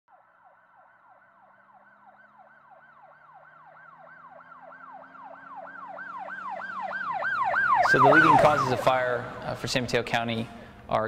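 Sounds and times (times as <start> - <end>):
siren yelping: 0.1 - 9.6.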